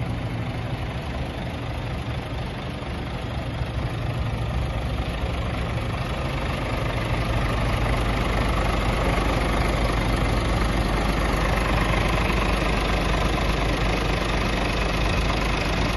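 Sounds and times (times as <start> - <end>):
diesel truck engine idling: 0.0 - 15.9.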